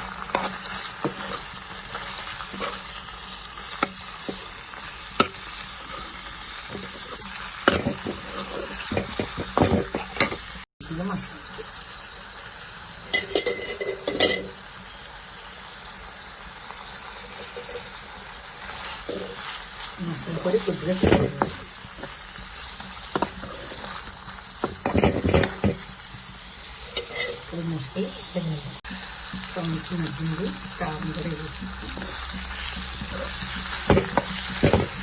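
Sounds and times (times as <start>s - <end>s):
spoon scraping and knocking pan: 0.0s - 10.6s, 13.1s - 14.6s, 17.2s - 18.0s, 18.6s - 27.7s, 28.8s - 35.0s
oil sizzling in a pan: 0.0s - 35.0s.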